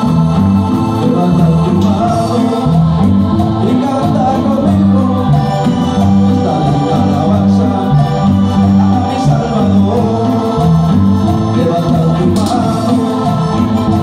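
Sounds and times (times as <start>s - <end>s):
bass: 0.0s - 14.0s
group singing: 0.0s - 14.0s
organ-style keyboard: 0.0s - 14.0s.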